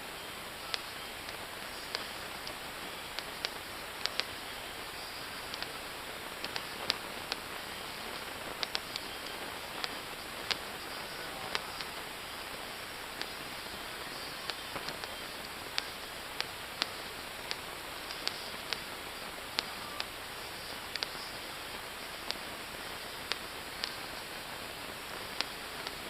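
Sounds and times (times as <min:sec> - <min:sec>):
steady hiss: 0:00.0 - 0:26.0
distant fireworks popping: 0:00.4 - 0:26.0.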